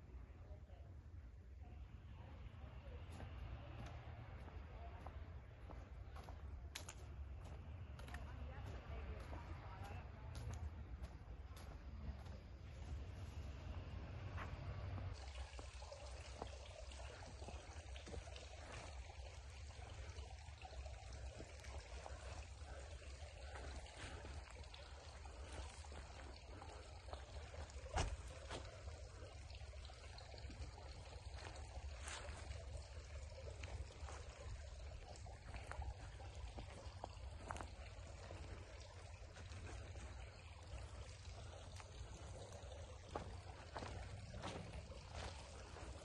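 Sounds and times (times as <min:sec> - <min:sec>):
water trickling and splashing: 0:01.8 - 0:46.0.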